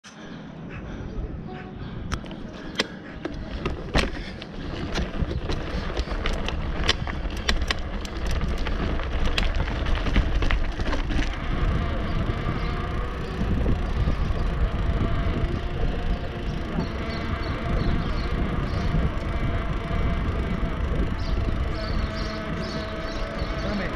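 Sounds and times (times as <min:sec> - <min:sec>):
tyre and wind rumble: 0:00.9 - 0:23.9
bicycle rattling over cobblestones: 0:02.2 - 0:23.9.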